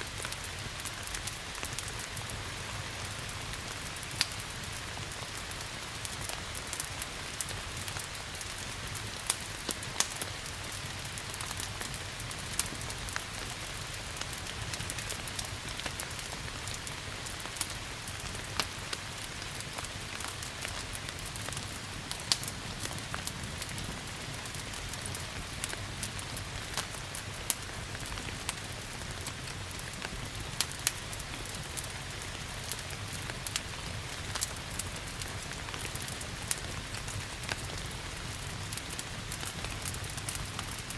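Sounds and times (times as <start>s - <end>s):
rain hiss: 0.0s - 40.9s
wood fire crackling and popping: 0.0s - 40.9s.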